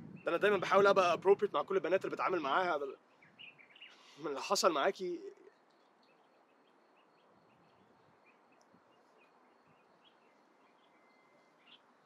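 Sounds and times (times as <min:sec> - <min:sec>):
bird chirps: 0:01.7 - 0:12.0.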